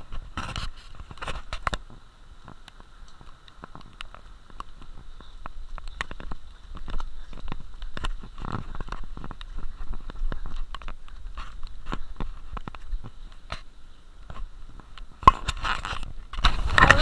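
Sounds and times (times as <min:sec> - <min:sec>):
muffled raindrops tapping on housing: 0:01.0 - 0:17.0.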